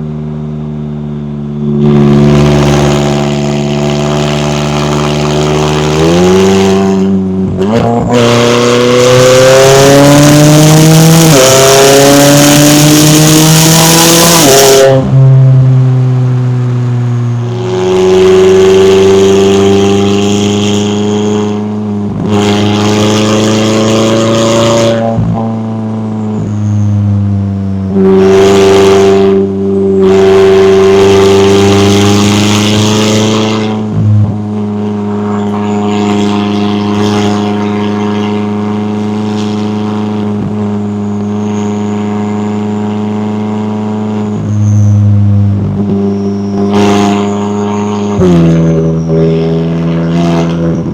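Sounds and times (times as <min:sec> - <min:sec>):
car engine accelerating through gears: 0:00.0 - 0:50.9.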